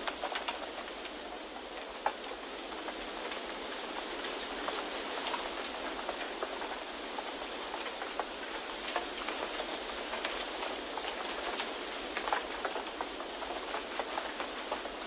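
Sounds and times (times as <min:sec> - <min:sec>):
small irregular ticks: 0:00.0 - 0:15.0
steady hiss: 0:00.0 - 0:15.0.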